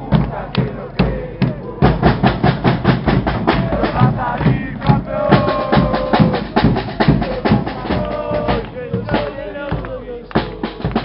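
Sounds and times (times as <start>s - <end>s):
crowd chanting: 0.0s - 11.0s
drum band beating drums: 0.0s - 11.0s.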